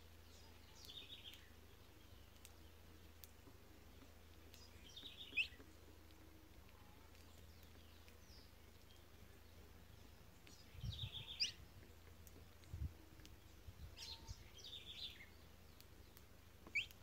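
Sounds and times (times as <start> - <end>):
faint low hum: 0.0 - 17.0
songbird chirping: 0.0 - 17.0
soft low bumps: 1.5 - 16.8.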